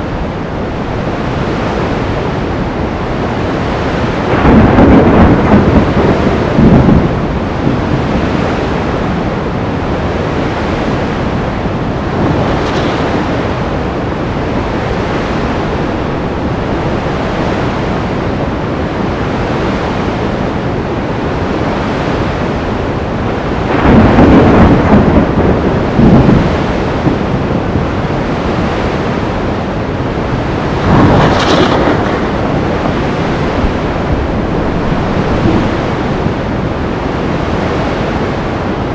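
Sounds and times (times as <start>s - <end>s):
surf roaring: 0.0s - 38.9s
waves crashing: 0.0s - 38.9s
wind: 0.0s - 38.9s.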